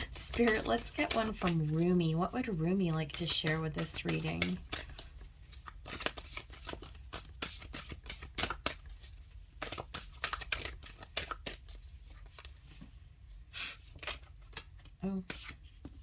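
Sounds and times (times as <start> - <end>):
cards being shuffled: 0.0 - 1.9, 3.1 - 13.0, 13.7 - 16.0.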